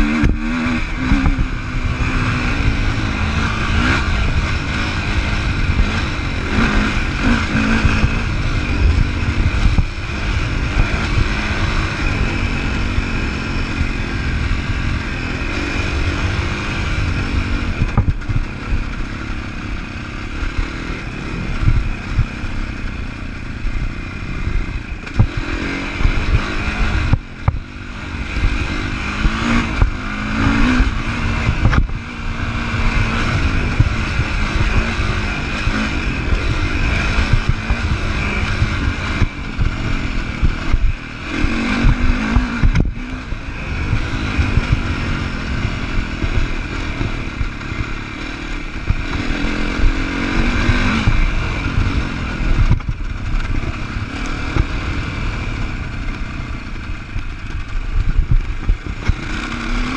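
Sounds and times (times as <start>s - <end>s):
motorcycle engine revving: 0.0s - 59.9s
wind rumble on microphone: 0.0s - 59.9s.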